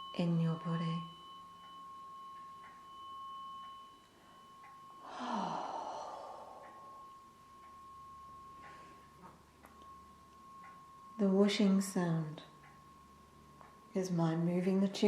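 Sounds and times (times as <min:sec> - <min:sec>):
tuning fork ringing: 0:00.0 - 0:15.0
tuning fork whooshing through air: 0:00.0 - 0:15.0.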